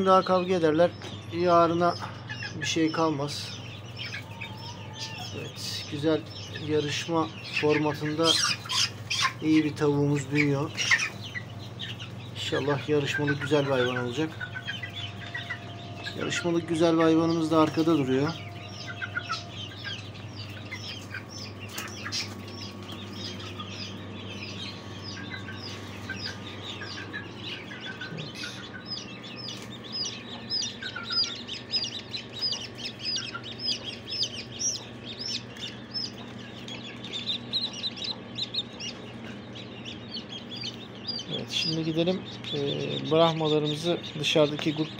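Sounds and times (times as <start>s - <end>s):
chicks peeping: 0.0s - 44.9s
steady low hum: 0.0s - 44.9s.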